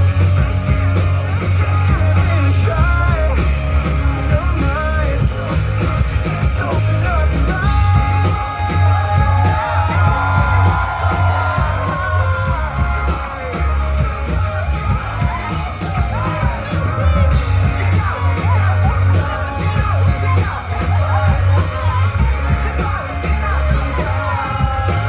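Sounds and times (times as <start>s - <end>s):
live rock band playing: 0.0s - 25.0s
person singing: 0.0s - 25.0s.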